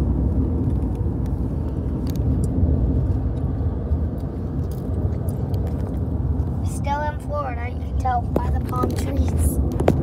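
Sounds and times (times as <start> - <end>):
tyre and road noise in car: 0.0 - 10.0.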